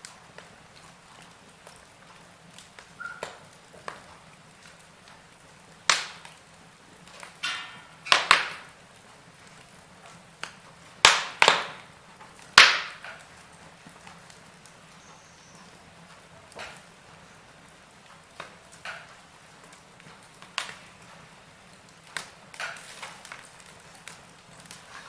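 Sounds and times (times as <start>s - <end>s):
low steady hiss: 0.0s - 25.0s
wood fire crackling and popping: 0.0s - 25.0s.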